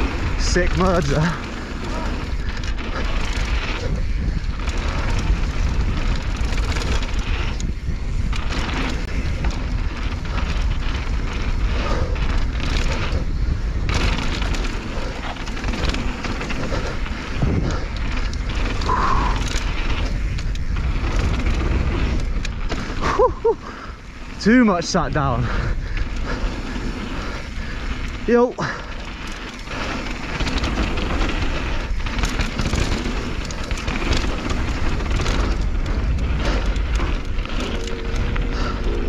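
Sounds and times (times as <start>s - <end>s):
bike clicks and rattles: 0.0s - 39.0s
tyres on gravel: 0.0s - 39.0s
wind rumble on microphone: 0.0s - 39.0s.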